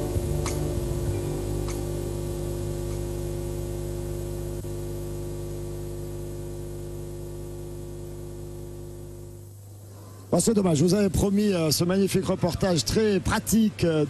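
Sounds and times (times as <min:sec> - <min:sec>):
electronic hum and buzz: 0:00.0 - 0:11.8.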